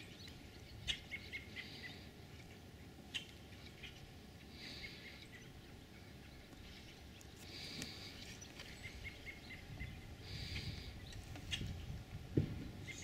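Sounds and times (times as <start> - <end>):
bird chirps: 0.0 - 12.0, 12.6 - 13.0
low wind rumble: 0.0 - 13.0.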